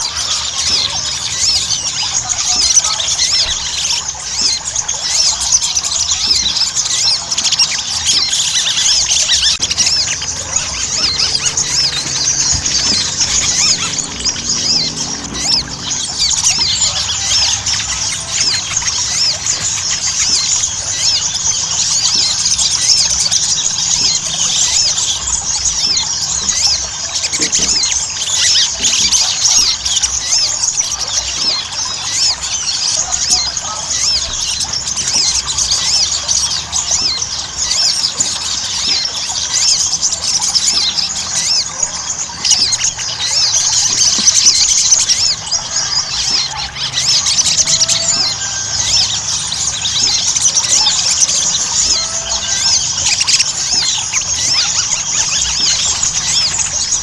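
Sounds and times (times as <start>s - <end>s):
bird chirping and trilling: 0.0s - 57.0s.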